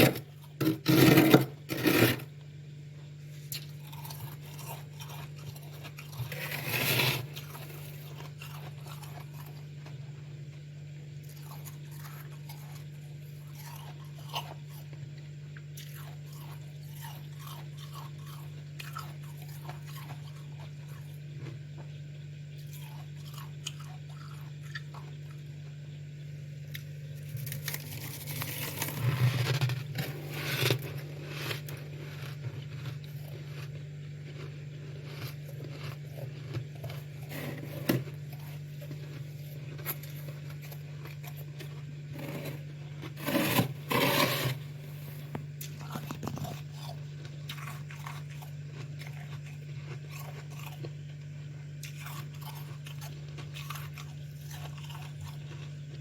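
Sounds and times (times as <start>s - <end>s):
crunching frost being chewed: 0.0s - 56.0s
steady low hum: 0.0s - 56.0s.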